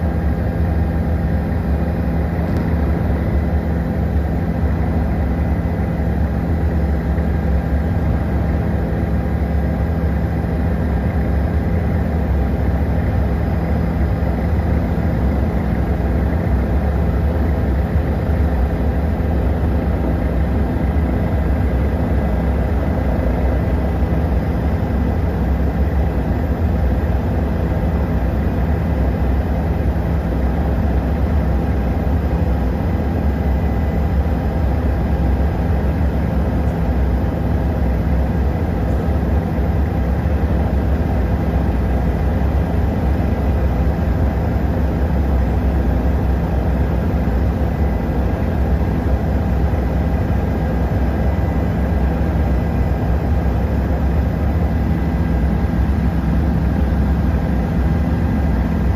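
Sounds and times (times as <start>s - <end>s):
helicopter rotor and engine drone: 0.0s - 58.9s.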